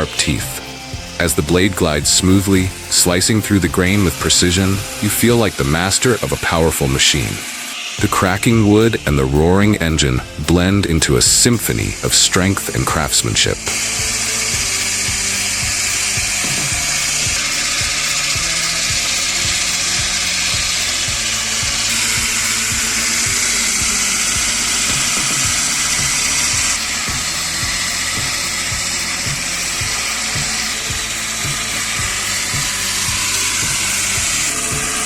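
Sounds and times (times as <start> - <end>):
background music with beat: 0.0 - 7.3, 8.0 - 35.0
power saw cutting wood: 0.0 - 35.0.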